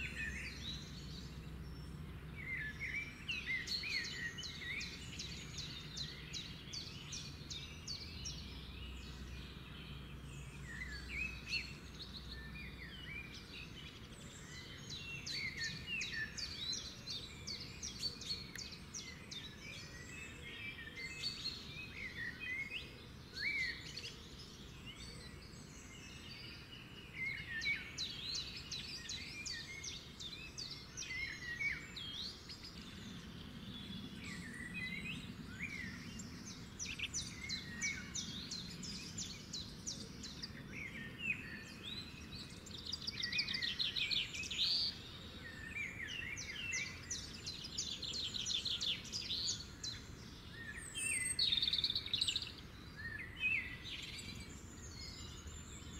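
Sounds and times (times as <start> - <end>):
birds chirping and singing: 0.0 - 55.9
faint background noise: 0.0 - 55.9.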